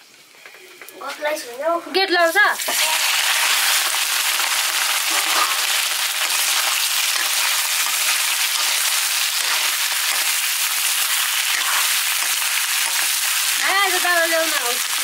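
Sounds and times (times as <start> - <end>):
food sizzling in hot oil: 0.2 - 15.0.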